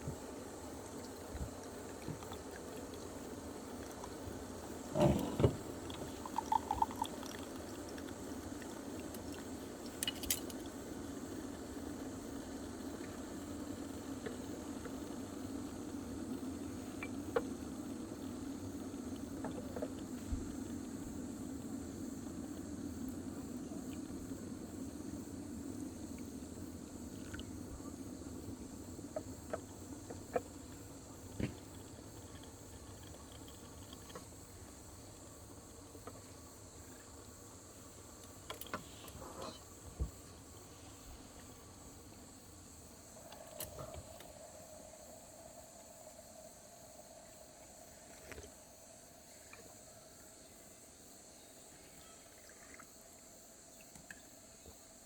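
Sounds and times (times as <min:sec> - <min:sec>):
faint steady hum: 0:00.0 - 0:55.0
insects chirring: 0:00.0 - 0:55.0.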